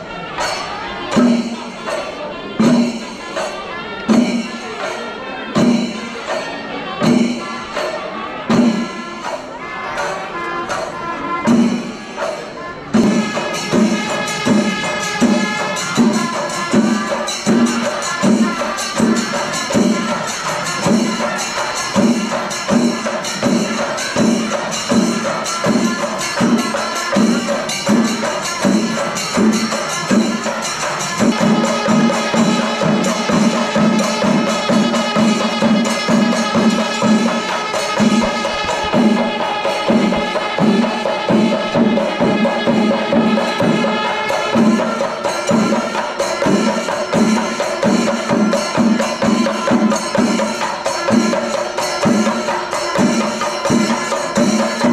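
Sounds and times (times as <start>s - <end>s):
percussion beat: 0.0s - 54.9s.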